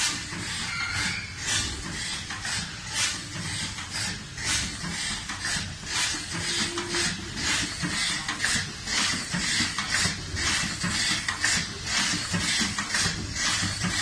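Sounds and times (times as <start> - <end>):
packing machine clattering and hissing: 0.0 - 14.0.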